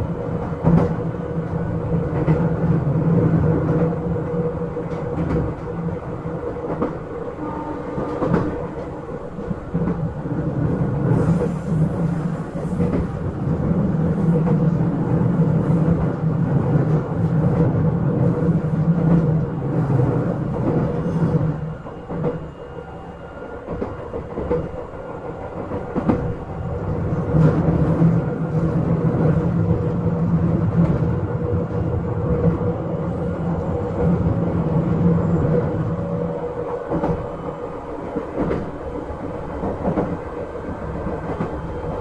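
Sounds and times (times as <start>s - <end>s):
wheels rumbling on rails: 0.0s - 42.0s.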